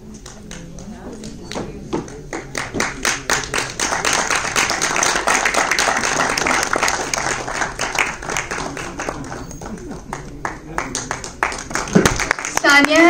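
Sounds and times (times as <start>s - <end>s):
audience applauding: 2.1s - 13.0s.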